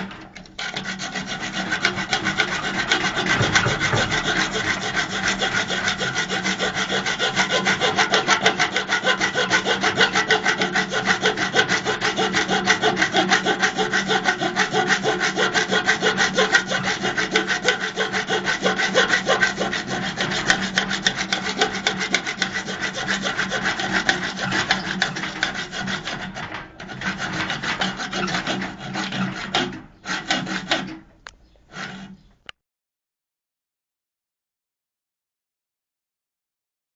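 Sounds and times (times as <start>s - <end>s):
rhythmic rasping strokes: 0.6s - 31.0s.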